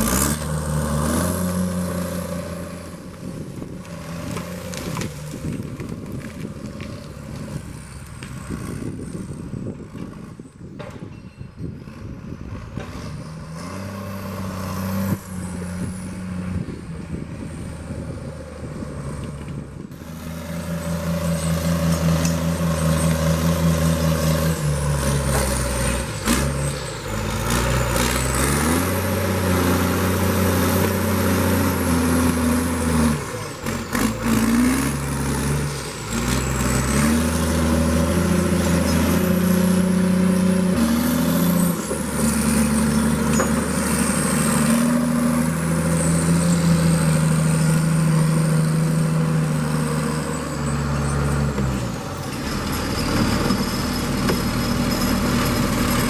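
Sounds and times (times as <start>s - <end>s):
diesel engine under varying throttle: 0.0s - 10.8s, 11.6s - 56.0s.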